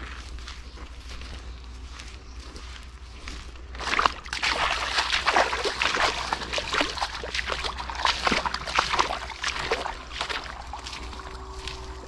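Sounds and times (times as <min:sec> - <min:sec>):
footsteps squelching through mud: 0:00.0 - 0:12.0.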